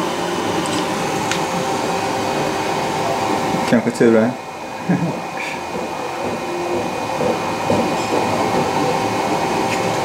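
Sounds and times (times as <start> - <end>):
stepper motors whining and buzzing: 0.0 - 10.0.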